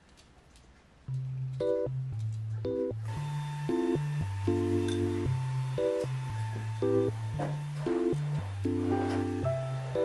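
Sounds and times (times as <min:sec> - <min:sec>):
instrumental background music: 0:01.1 - 0:10.0.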